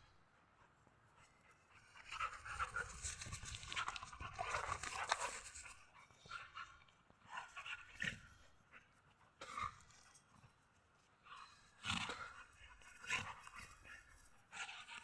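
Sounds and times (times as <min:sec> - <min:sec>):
dogs panting: 0:00.3 - 0:15.0.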